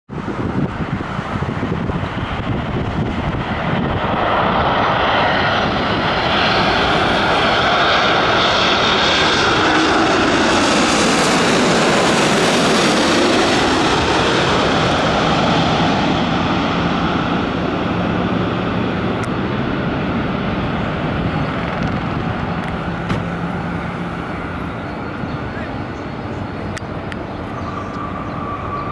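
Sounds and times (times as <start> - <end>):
jet airliner passing overhead: 0.1 - 28.9.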